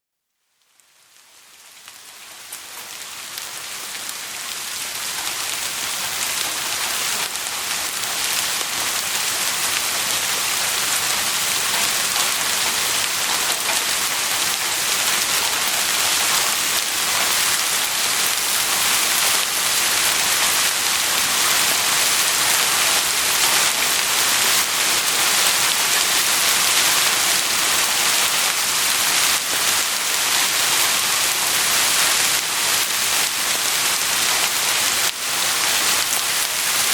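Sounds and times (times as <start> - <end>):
heavy rain falling: 0.9 - 36.9.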